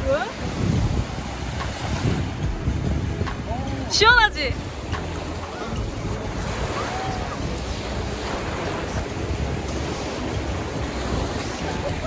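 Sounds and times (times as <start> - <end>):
small waves washing on sand: 0.0 - 12.0
wind rumbling on microphone: 0.0 - 12.0.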